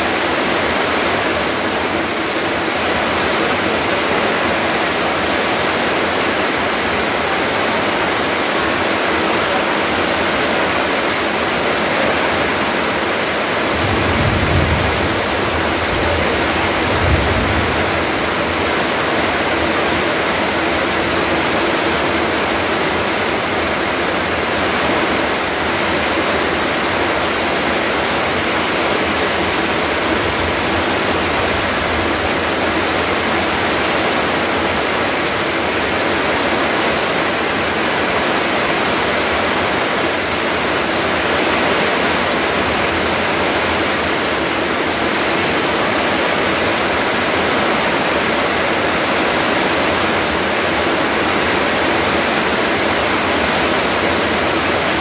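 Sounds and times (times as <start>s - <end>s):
heavy rain pouring on trees: 0.0s - 55.0s.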